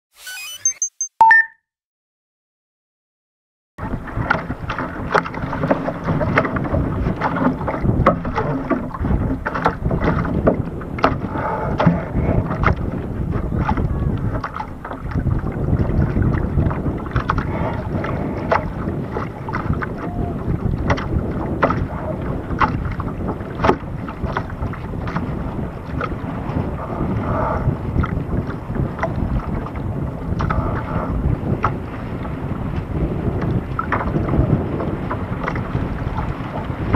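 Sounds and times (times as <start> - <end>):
water slapping against hull: 3.8 - 36.9
wind rumbling on microphone: 3.8 - 36.9.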